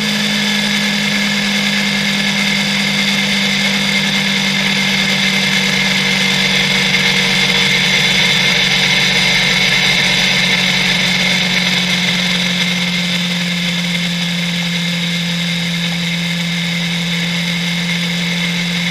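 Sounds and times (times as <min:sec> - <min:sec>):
motorcycle engine cruising: 0:00.0 - 0:18.9
wind and road noise: 0:00.1 - 0:18.9.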